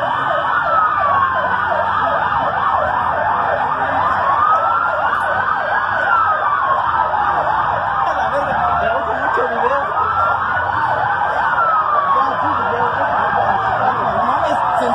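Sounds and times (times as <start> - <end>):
emergency sirens wailing: 0.0 - 14.9
warbling siren tones: 0.0 - 14.9.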